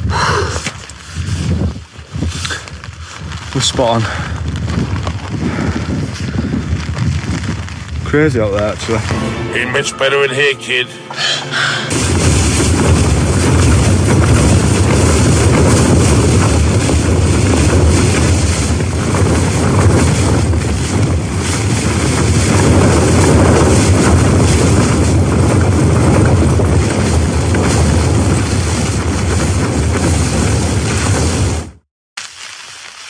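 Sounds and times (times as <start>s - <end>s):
wind buffeting microphone: 0.0s - 9.1s, 11.9s - 31.8s
gusting wind battering tent: 0.0s - 9.2s, 11.9s - 31.9s.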